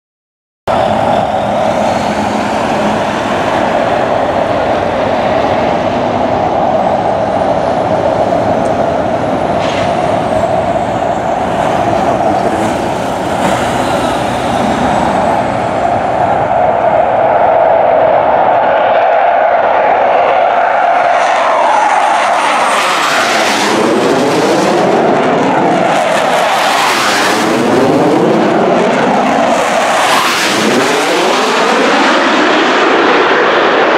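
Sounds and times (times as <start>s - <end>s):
jet engines roaring: 0.7s - 33.9s.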